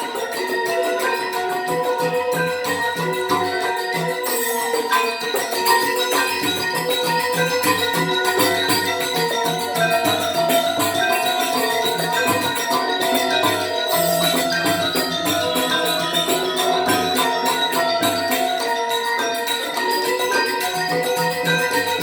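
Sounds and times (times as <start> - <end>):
ringing metallophone notes: 0.0 - 22.0.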